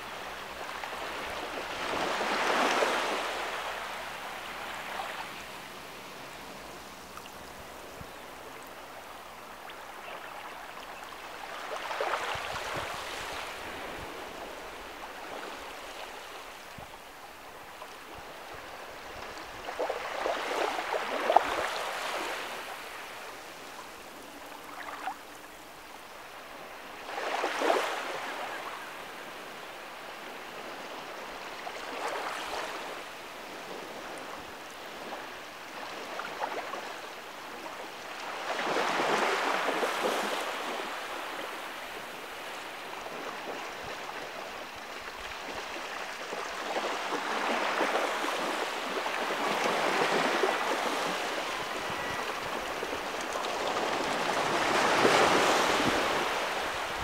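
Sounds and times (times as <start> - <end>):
small waves washing over sand: 0.0 - 57.0.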